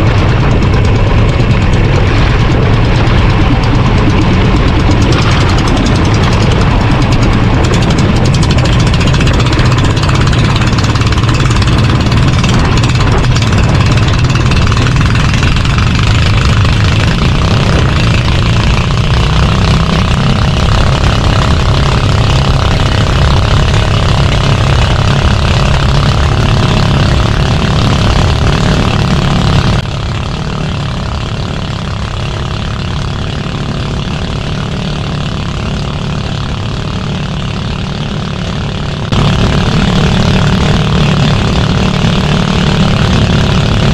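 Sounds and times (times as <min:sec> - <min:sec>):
boat engine drone: 0:00.0 - 0:43.9.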